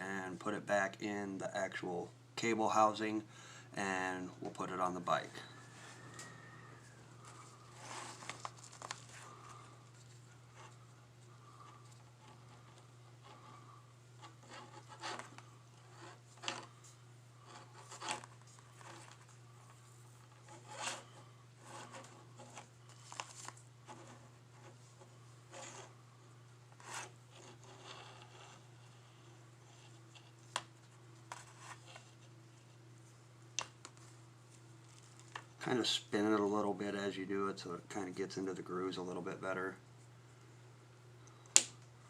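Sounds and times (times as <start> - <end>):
steady low hum: 0.0 - 42.0
rubbing and scraping on cable: 4.3 - 40.1.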